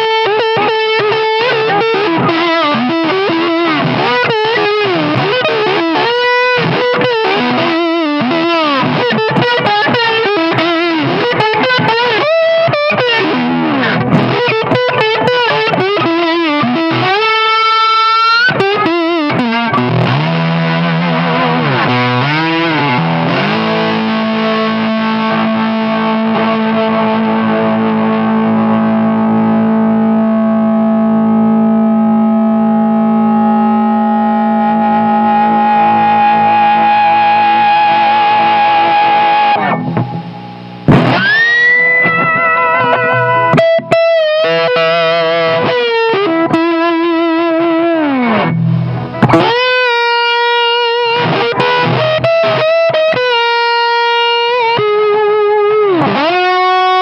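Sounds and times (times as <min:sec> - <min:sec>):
slide electric guitar: 0:00.0 - 0:57.0.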